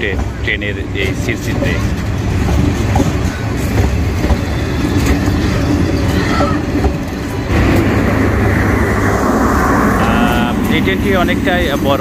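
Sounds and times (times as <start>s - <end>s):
train carriages rumbling past: 0.0s - 12.0s.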